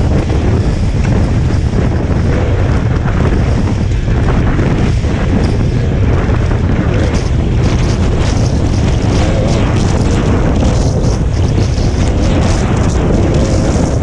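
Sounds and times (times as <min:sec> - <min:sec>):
dirt bike engine running: 0:00.0 - 0:14.0
wind buffeting microphone: 0:00.0 - 0:14.0.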